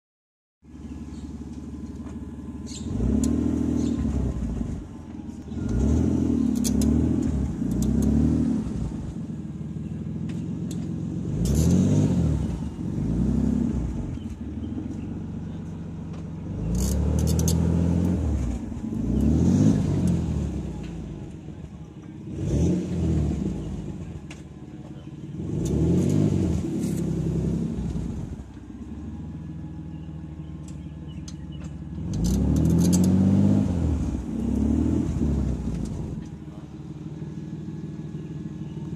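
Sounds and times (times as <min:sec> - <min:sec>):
car engine revving: 0:00.7 - 0:38.9
wheel noise: 0:00.7 - 0:38.9.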